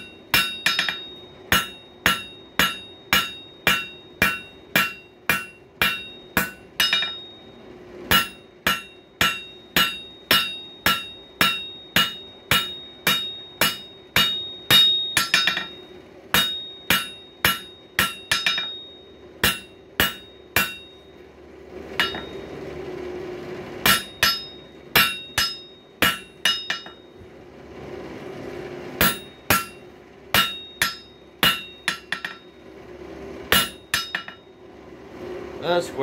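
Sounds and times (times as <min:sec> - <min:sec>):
hammer striking steel on anvil: 0:00.0 - 0:22.6, 0:23.8 - 0:27.3, 0:29.0 - 0:32.7, 0:33.5 - 0:34.6
low hum: 0:00.0 - 0:35.6.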